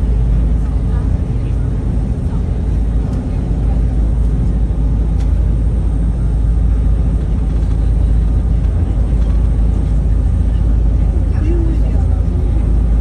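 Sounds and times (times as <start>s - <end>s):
speed boat engine rumble: 0.0s - 13.0s.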